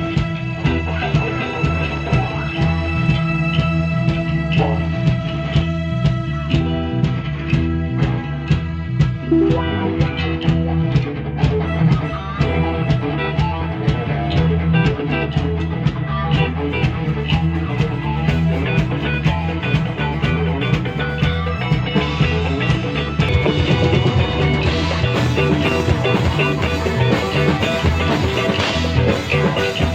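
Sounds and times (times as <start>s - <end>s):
bass line: 0.0s - 29.9s
drums beating steadily: 0.0s - 29.9s
electric guitar: 0.0s - 29.9s.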